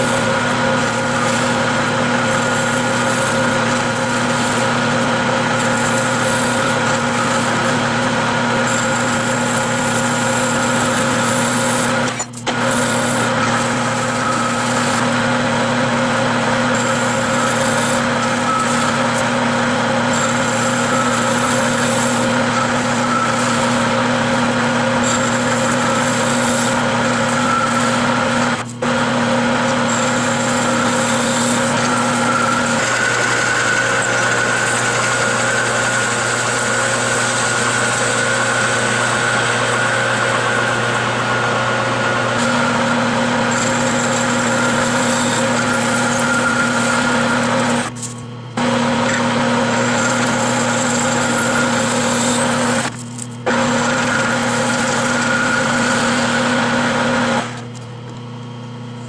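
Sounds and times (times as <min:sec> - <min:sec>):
metal lathe running: 0:00.0 - 0:57.8
tool cutting metal bar: 0:00.0 - 0:57.8.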